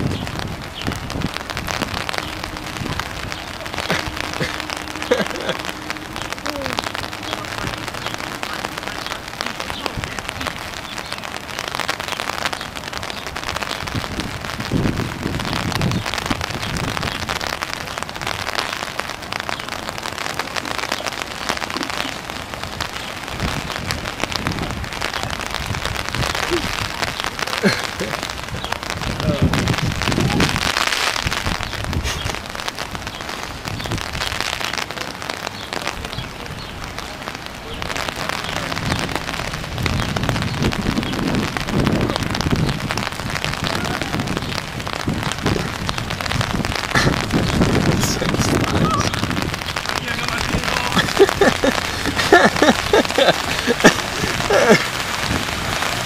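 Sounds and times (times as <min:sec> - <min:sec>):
rain falling on water: 0:00.0 - 0:56.0.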